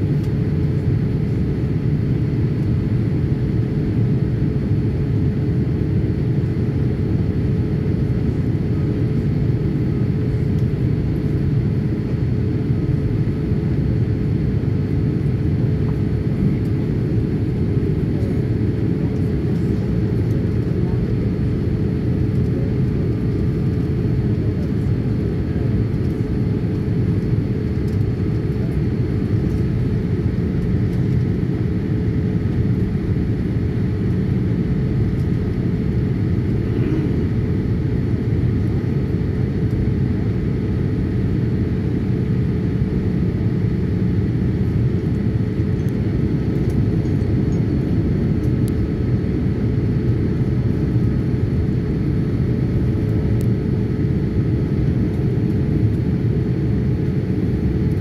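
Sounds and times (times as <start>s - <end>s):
engine and airflow roar: 0.0s - 58.0s.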